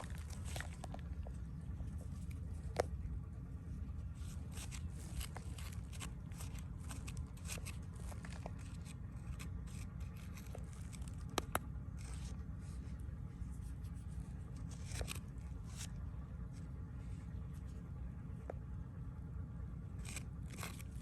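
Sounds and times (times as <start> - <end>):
scraping and rustling strokes: 0.0 - 3.0, 3.7 - 17.8
low rumble: 0.0 - 21.0.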